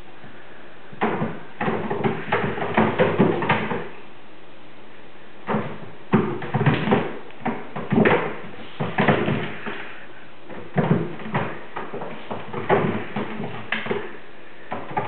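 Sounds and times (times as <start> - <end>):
kittens' paws scrabbling on roof: 1.0 - 4.0, 5.4 - 15.0.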